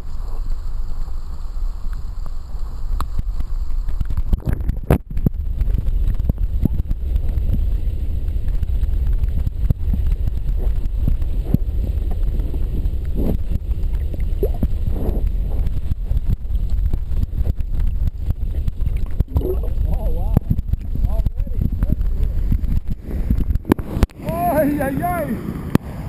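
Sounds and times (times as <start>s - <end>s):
low rumble of water: 0.0s - 26.0s.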